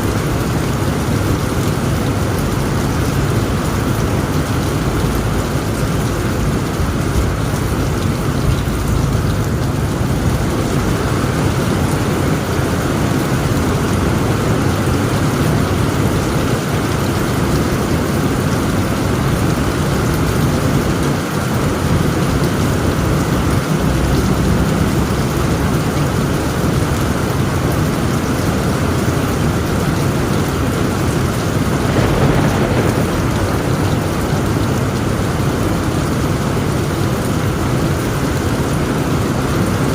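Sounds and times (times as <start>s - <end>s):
heavy rain on tent roof: 0.0s - 39.9s
low rumble of thunder: 0.1s - 27.1s, 28.7s - 38.2s.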